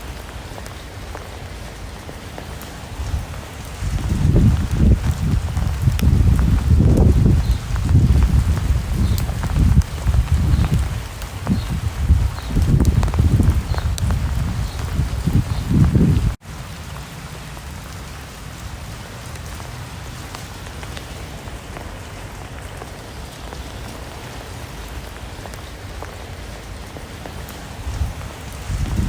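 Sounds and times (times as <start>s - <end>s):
raindrops ticking: 0.0s - 29.0s
steady rain hiss: 0.0s - 29.0s.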